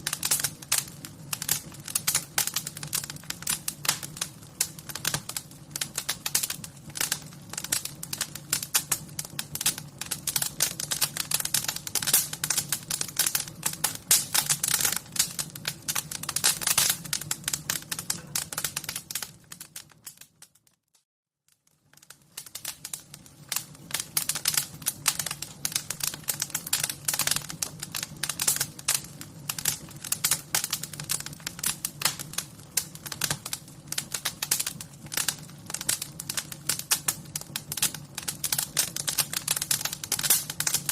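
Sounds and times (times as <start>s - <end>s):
low fire rumble: 0.0s - 19.8s, 21.9s - 40.9s
wood fire crackling and popping: 0.0s - 20.9s, 21.5s - 40.9s.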